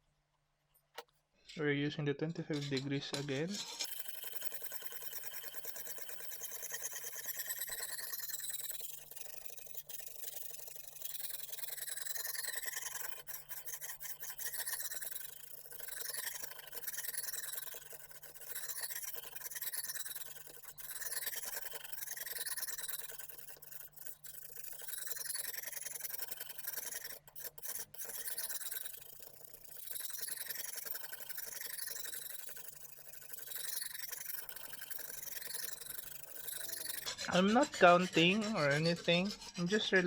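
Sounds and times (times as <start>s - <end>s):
sharpening stone rasping on knife: 2.5s - 40.0s.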